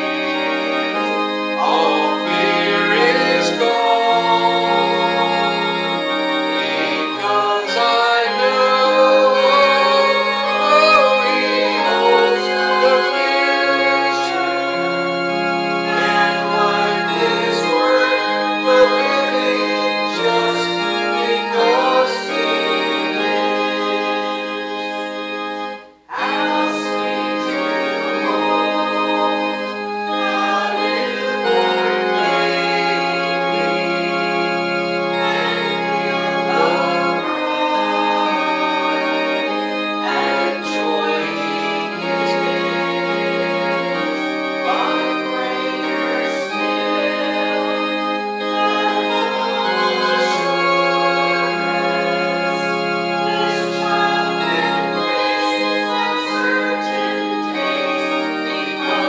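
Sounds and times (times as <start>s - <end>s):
organ playing hymn chords: 0.0s - 59.0s
voices singing: 0.0s - 59.0s.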